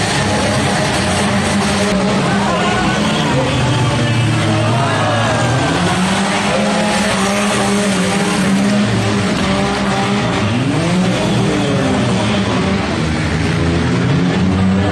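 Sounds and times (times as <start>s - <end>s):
car engines revving: 0.0s - 14.9s.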